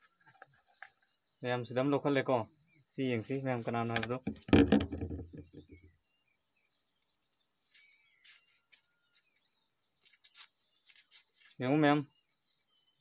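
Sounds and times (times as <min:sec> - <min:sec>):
high-pitched insect chorus: 0:00.0 - 0:04.2, 0:05.4 - 0:13.0.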